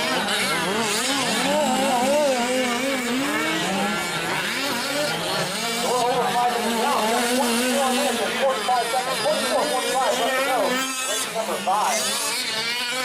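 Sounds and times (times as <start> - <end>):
small two-stroke engines racing: 0.0 - 13.0.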